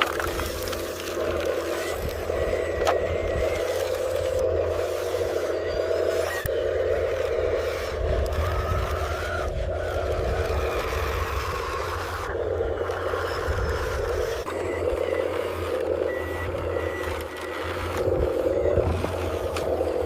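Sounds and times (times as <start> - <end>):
machine mechanical whirr: 0.0 - 20.0.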